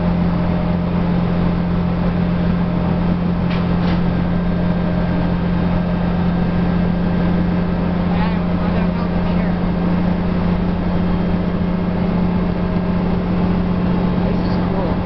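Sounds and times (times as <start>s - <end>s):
bus engine and drivetrain hum: 0.0s - 15.0s
road noise: 0.0s - 15.0s.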